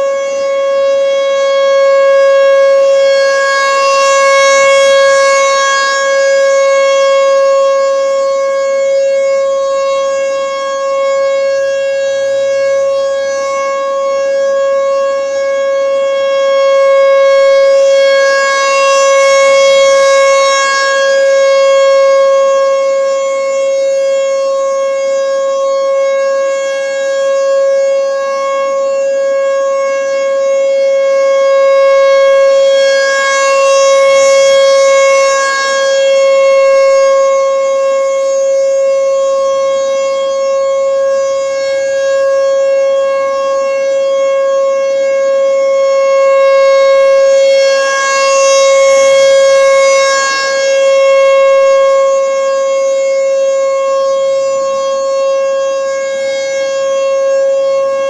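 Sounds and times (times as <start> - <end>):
rotating warning siren: 0.0 - 58.0.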